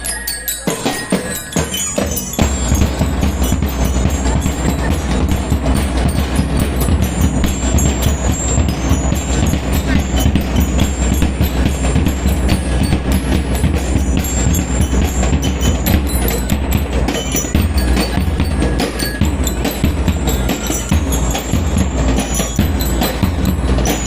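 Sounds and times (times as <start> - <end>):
bell lyres ringing: 0.0 - 24.0
snare and bass drums: 0.8 - 24.0.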